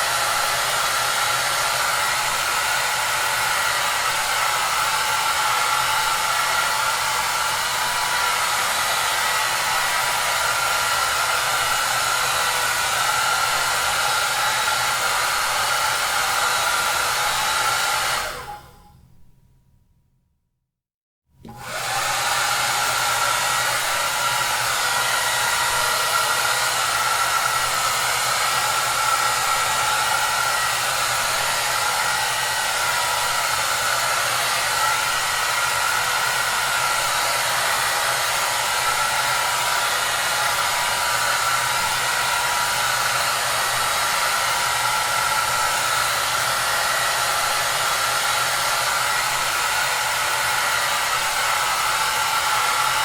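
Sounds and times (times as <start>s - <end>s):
hair dryer running: 0.0s - 18.9s, 21.4s - 53.0s.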